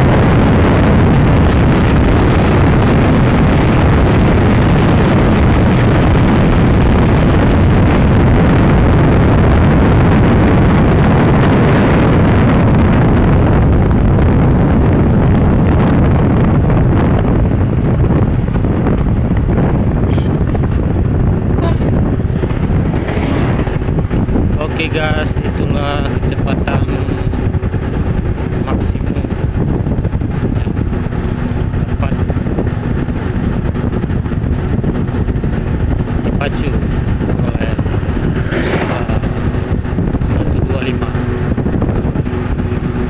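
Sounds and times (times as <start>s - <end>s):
motorcycle engine: 0.0s - 43.0s
wind roar on microphone: 0.0s - 43.0s.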